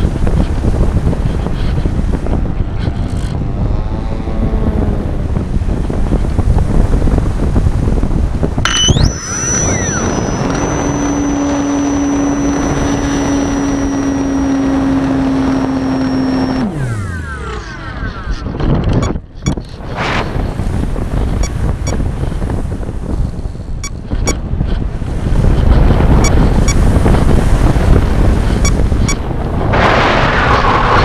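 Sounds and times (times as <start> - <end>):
electric motor and propeller whine: 0.0 - 31.0
wind rushing over microphone: 0.0 - 31.0.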